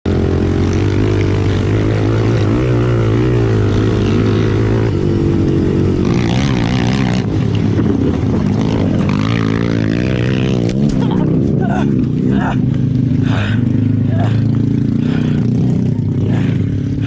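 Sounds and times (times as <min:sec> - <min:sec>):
atv engine running hard: 0:00.1 - 0:17.0.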